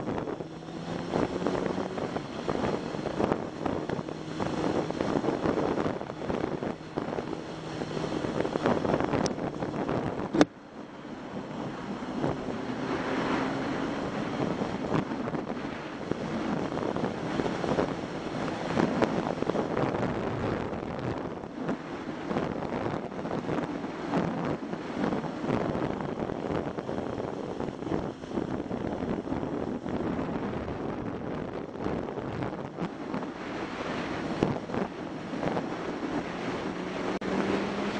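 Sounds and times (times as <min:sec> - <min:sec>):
motorcycle engine running: 0:00.0 - 0:37.9
wind rushing over microphone: 0:00.0 - 0:37.9.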